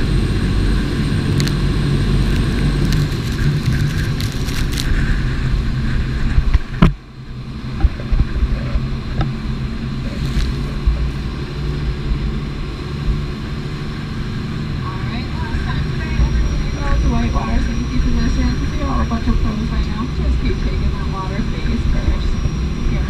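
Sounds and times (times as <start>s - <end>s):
boat engine running: 0.0s - 23.0s
rushing wind and water: 0.0s - 23.0s.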